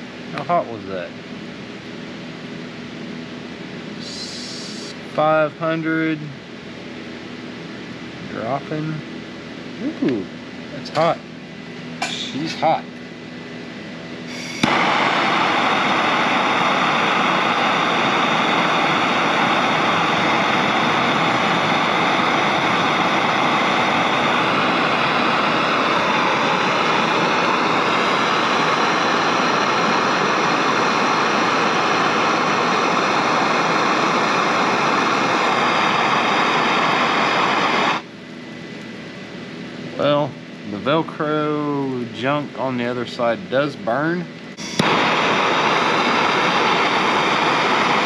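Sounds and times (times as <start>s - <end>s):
propane torch roaring: 0.0s - 48.0s.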